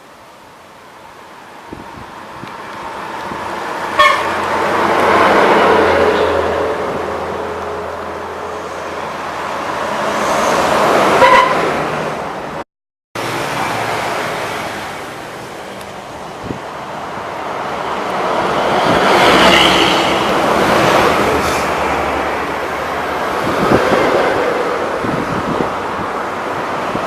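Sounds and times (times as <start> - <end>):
buses passing at speed: 0.0 - 12.6, 13.2 - 27.0.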